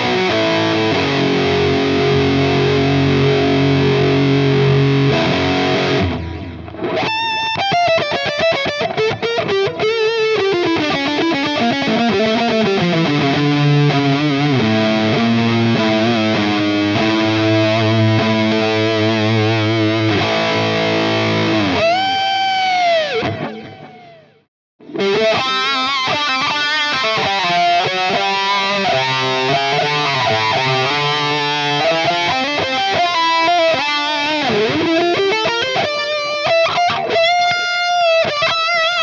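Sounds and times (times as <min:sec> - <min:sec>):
distorted electric guitar lead: 0:00.0 - 0:39.0.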